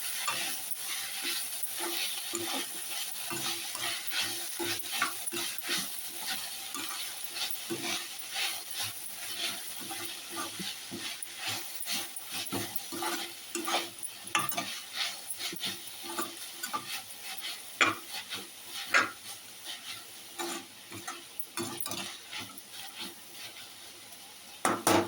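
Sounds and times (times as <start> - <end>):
light sizzle: 0.0 - 25.0
spoon scraping a pan: 0.0 - 25.0.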